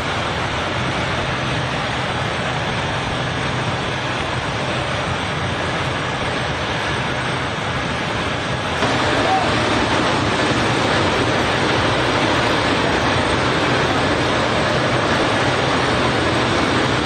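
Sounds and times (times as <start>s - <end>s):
low hum: 0.0s - 17.0s
steady roar of noise: 0.0s - 17.0s.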